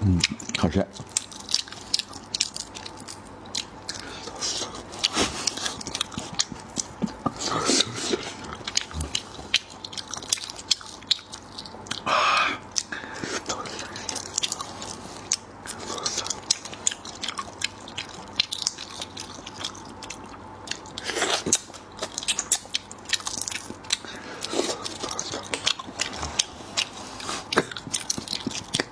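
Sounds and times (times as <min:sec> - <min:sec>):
wet chewing and crunching: 0:00.0 - 0:28.9.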